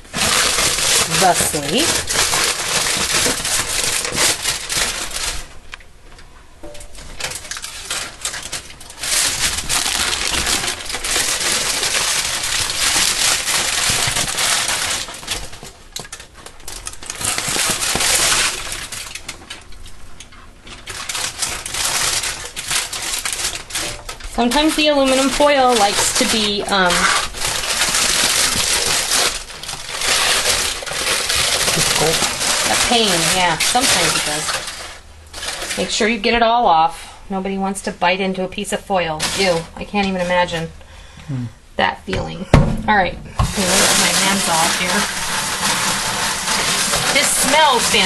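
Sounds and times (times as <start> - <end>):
aluminum foil crinkling: 0.0 - 37.2, 37.8 - 41.2, 42.2 - 48.0.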